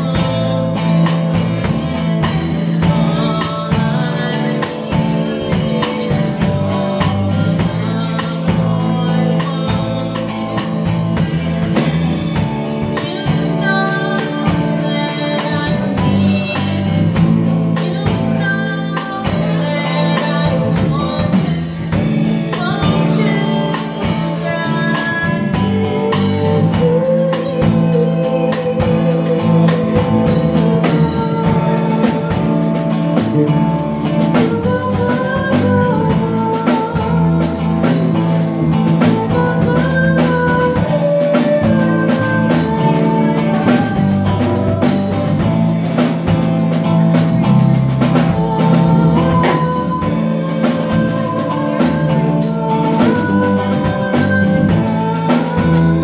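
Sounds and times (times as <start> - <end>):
drum kit beat: 0.0 - 56.0
live band playing: 0.0 - 56.0
woman singing: 0.0 - 56.0.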